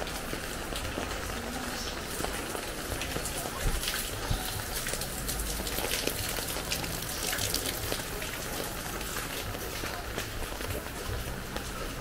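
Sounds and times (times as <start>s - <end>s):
raindrops ticking on hard surfaces: 0.0s - 12.0s
steady rain falling: 0.0s - 12.0s.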